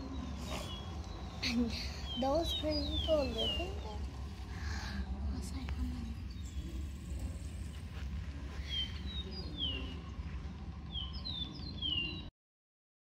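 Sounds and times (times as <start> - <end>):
low steady hum: 0.0 - 12.3.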